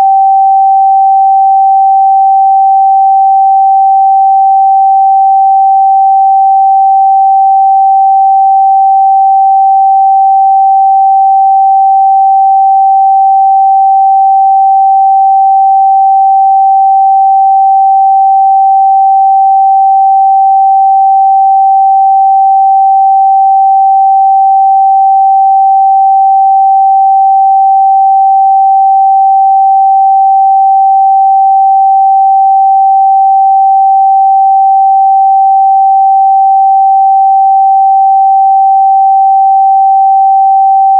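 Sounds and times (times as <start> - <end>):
sine wave test tone: 0.0 - 40.9.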